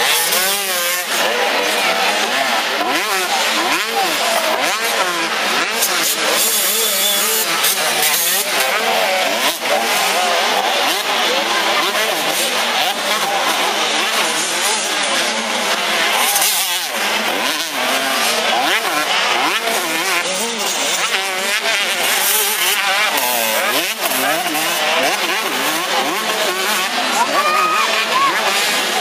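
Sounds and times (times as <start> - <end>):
motocross bikes revving: 0.0 - 29.0.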